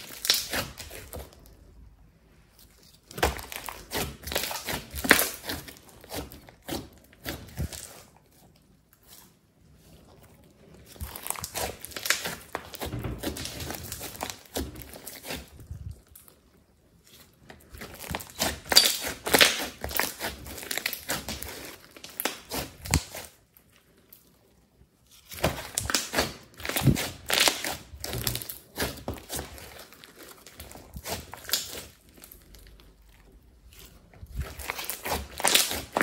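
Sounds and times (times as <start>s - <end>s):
slime crackling and popping: 0.0s - 1.8s, 2.5s - 24.4s, 25.0s - 36.0s.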